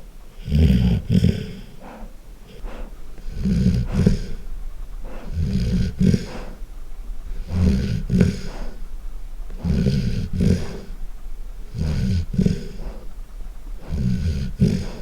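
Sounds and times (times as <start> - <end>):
dog breathing: 0.0 - 15.0
dog snoring: 0.3 - 15.0.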